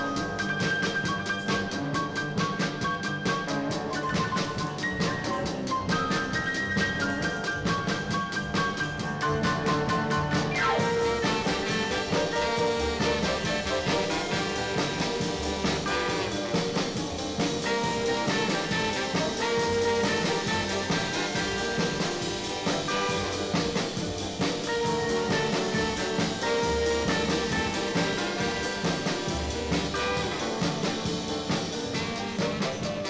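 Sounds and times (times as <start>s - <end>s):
jazz tune with brass and drums: 0.0s - 33.0s.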